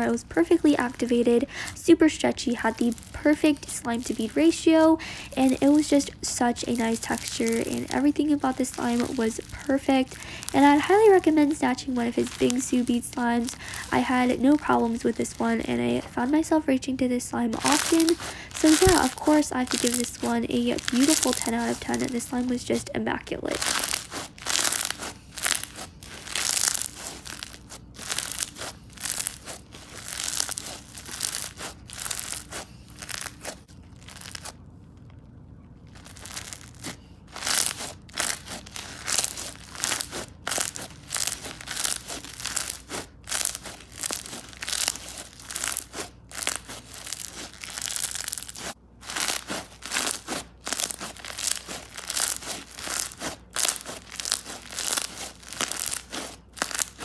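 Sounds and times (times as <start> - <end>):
slime crunching and popping: 2.5 - 16.1, 17.6 - 22.8, 23.4 - 35.2, 35.8 - 57.0.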